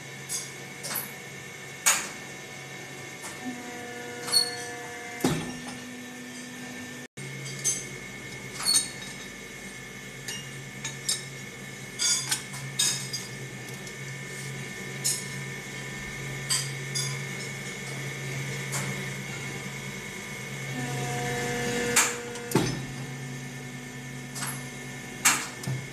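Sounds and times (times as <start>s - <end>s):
machine motor hum: 0.0s - 8.8s, 9.4s - 25.9s.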